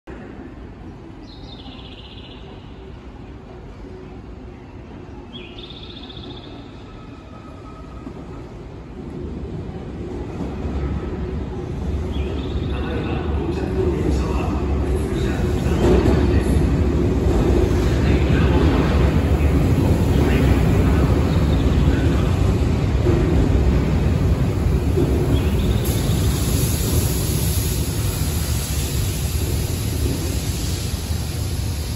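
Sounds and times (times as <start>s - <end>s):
electric train rumbling past: 5.9s - 31.9s.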